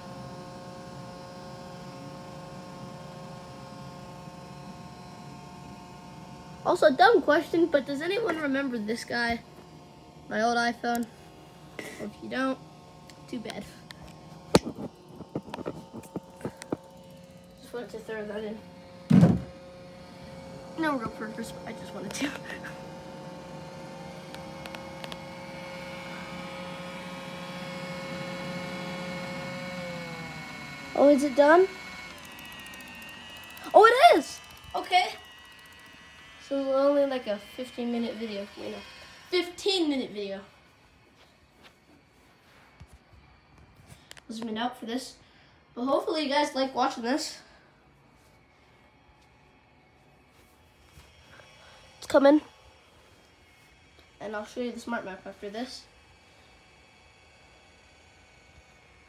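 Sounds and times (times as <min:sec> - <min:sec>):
robot vacuum running: 0:00.0 - 0:59.0.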